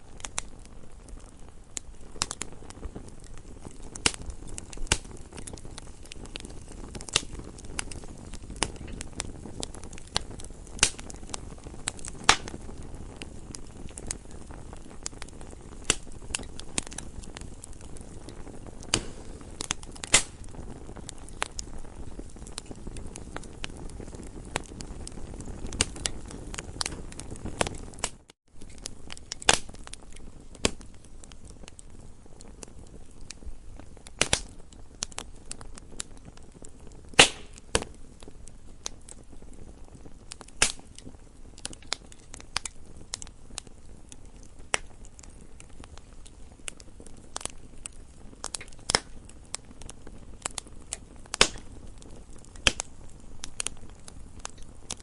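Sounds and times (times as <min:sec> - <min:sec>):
campfire crackling: 0:00.0 - 0:55.0
rush of flames: 0:00.0 - 0:55.0.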